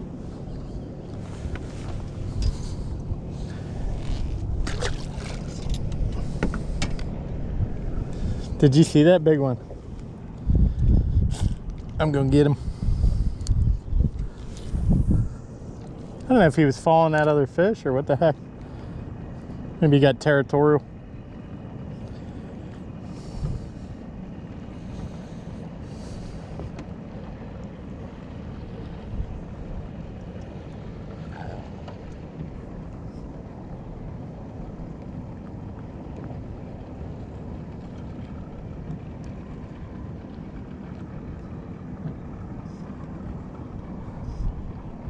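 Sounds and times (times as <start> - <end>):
wind rumbling on microphone: 0.0 - 17.0, 21.2 - 45.0.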